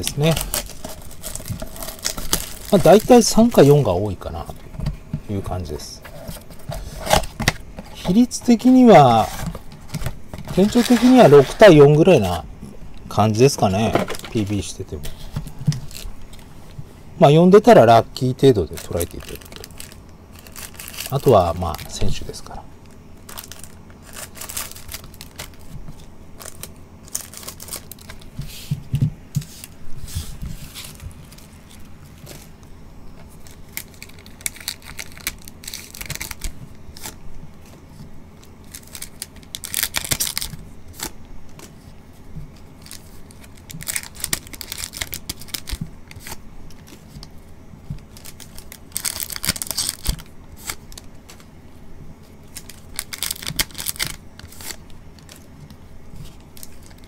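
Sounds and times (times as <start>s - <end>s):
foil wrappers crinkling and ripping: 0.0s - 4.7s, 5.3s - 12.4s, 13.1s - 16.5s, 17.2s - 28.7s, 29.4s - 51.6s, 52.2s - 57.0s.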